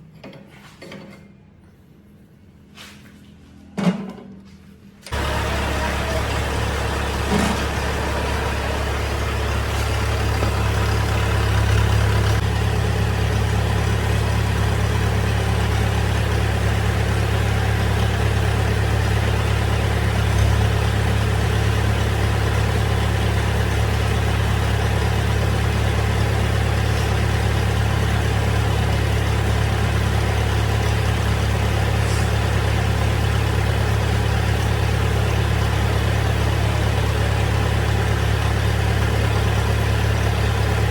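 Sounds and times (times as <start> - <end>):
machine low drone: 5.1 - 40.9.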